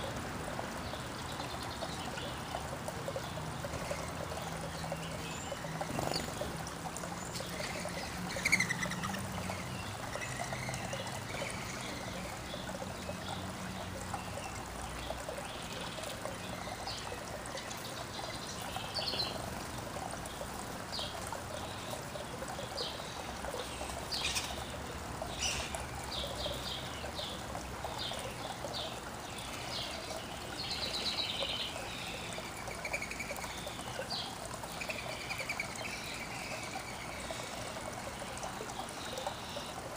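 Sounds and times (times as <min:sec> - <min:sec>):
songbirds chirping: 0:00.0 - 0:39.9
water trickling: 0:00.0 - 0:39.9.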